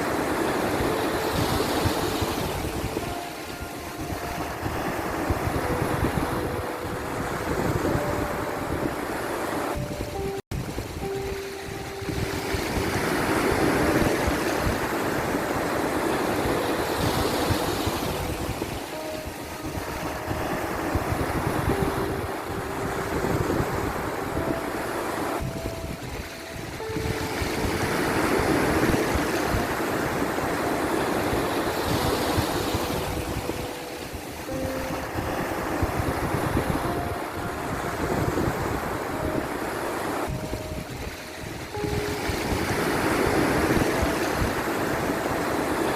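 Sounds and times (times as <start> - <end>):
sea waves washing in: 0.0 - 45.9.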